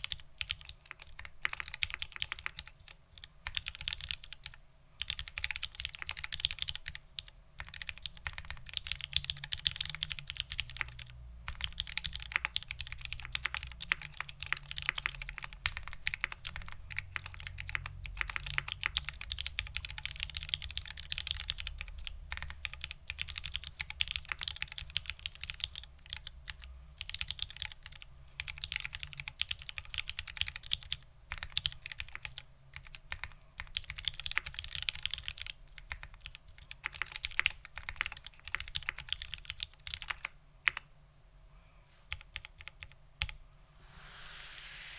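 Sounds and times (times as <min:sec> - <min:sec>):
fast mechanical keyboard typing: 0:00.0 - 0:40.8, 0:42.1 - 0:43.4.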